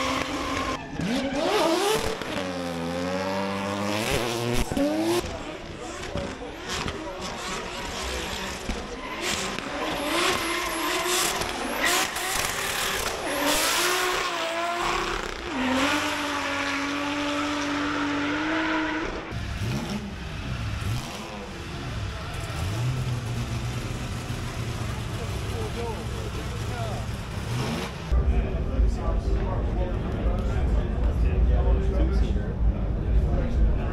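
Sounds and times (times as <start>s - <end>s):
car engines revving hard: 0.0s - 28.2s.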